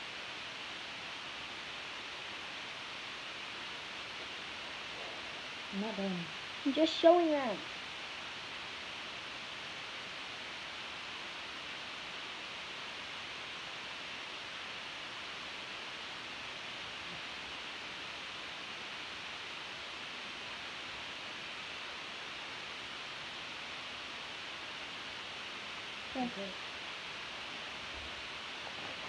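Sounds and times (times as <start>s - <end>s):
background hiss: 0.0s - 29.0s.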